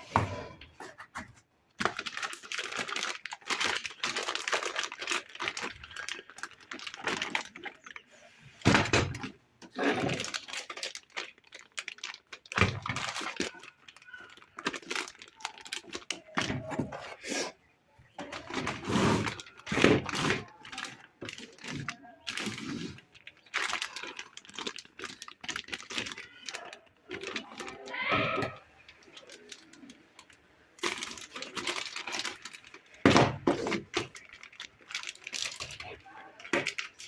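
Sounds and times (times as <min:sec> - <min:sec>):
plastic packaging rustling: 0:00.7 - 0:17.0, 0:18.2 - 0:37.0.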